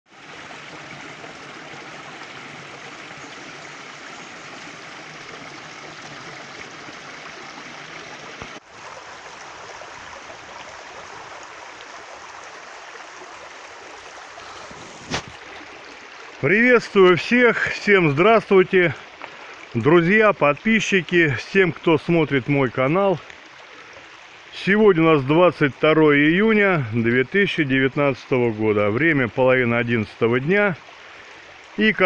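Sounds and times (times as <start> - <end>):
stream splashing over rocks: 0.1 - 32.0.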